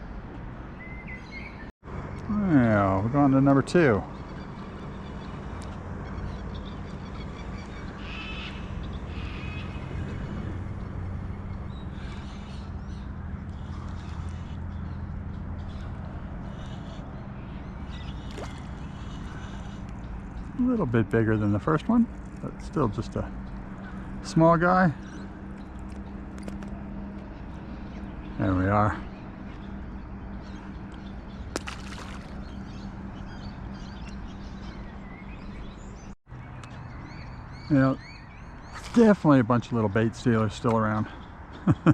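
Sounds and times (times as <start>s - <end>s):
birds chirping: 0.0s - 41.9s
constant hum: 0.0s - 41.9s
low outdoor rumble: 1.9s - 36.2s.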